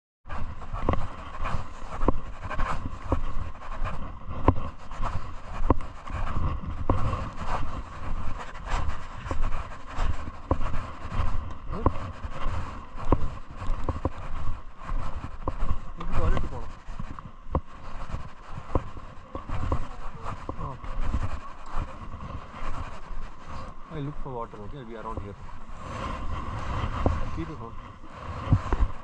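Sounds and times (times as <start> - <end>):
wind rumbling on microphone: 0.2 - 29.0
footsteps on paving stones: 0.3 - 29.0.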